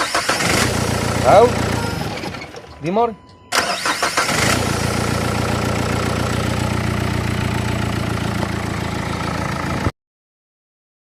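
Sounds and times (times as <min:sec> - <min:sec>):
diesel engine idling: 0:00.0 - 0:09.9.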